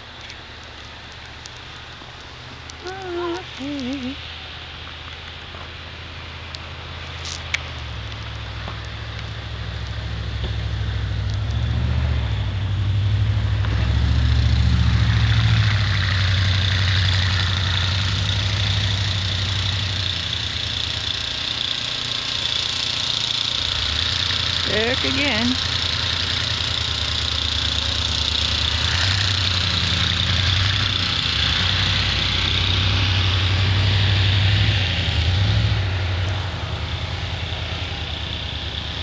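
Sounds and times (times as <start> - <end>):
vehicle engine droning: 0.0 - 39.0.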